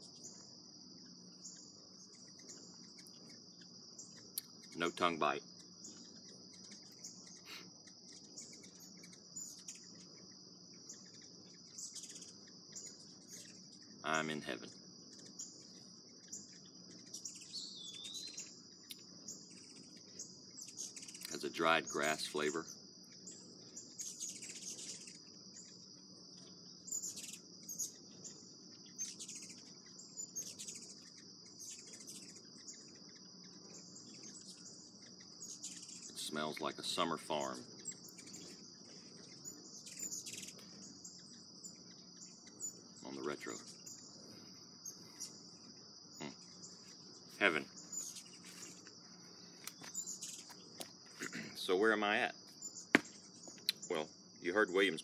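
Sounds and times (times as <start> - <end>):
insects trilling: 0.0 - 55.0
short insect chirps: 0.0 - 55.0.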